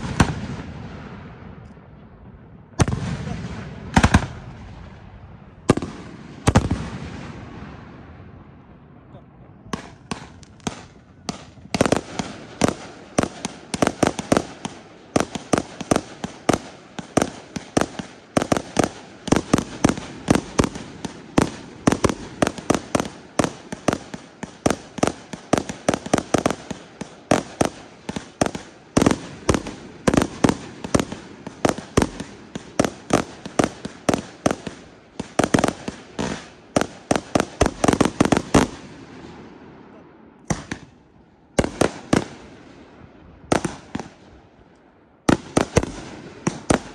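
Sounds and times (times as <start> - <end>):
fireworks bangs: 0.0 - 44.6, 45.2 - 46.9.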